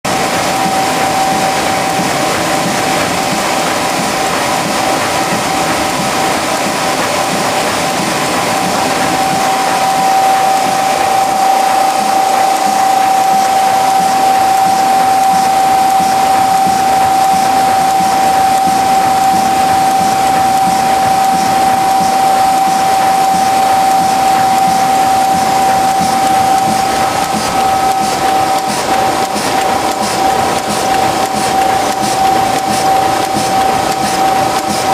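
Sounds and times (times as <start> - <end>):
machine whine: 0.1 - 34.9
rush of air and machinery: 0.1 - 34.9.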